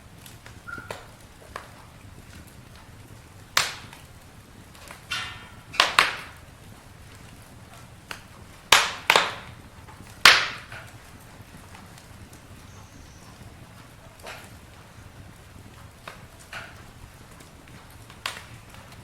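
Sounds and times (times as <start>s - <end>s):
campfire wood crackling and popping: 0.0s - 19.0s.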